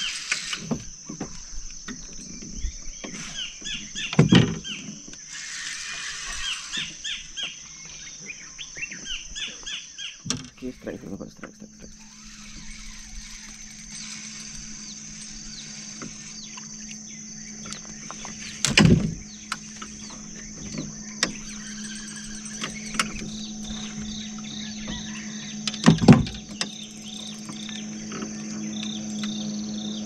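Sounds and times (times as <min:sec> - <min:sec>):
birds calling: 0:00.0 - 0:30.0
insect drone: 0:00.0 - 0:30.0.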